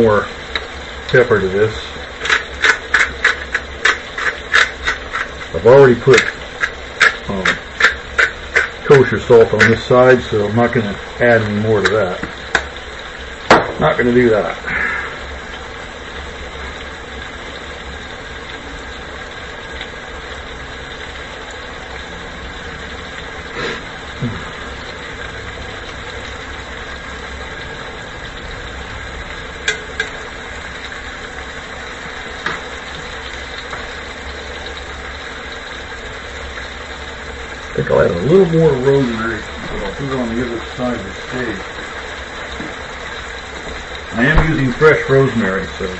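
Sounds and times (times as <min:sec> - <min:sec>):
steak sizzling in a skillet: 0:00.0 - 0:45.9.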